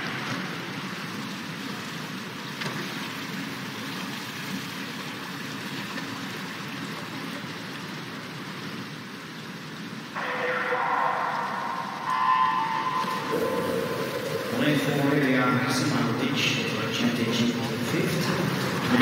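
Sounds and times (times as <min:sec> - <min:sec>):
hushed indoor pool ambience: 0:00.0 - 0:19.0.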